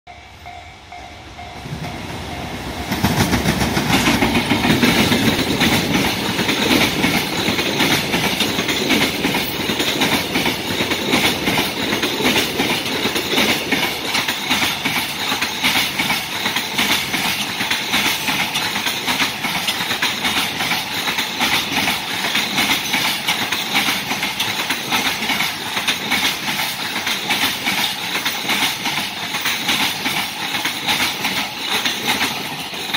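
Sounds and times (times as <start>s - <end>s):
freight train passing: 0.1s - 32.9s
wheels clacking over rail joints: 1.7s - 32.9s.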